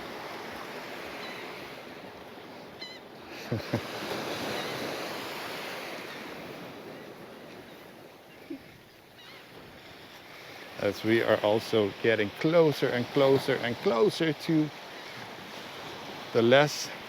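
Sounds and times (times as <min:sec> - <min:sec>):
sea waves washing onto beach: 0:00.0 - 0:08.9, 0:09.5 - 0:17.0.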